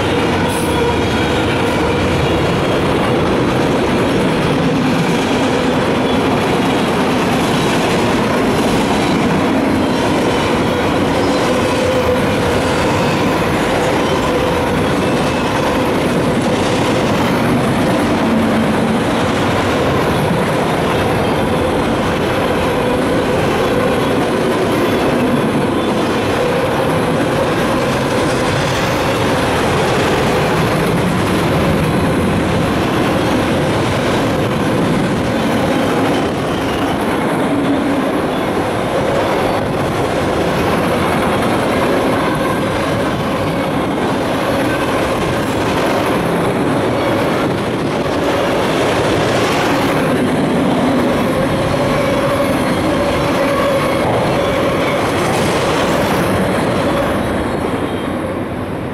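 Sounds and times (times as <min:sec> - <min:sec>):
freight train wheels rumbling: 0:00.0 - 0:58.9.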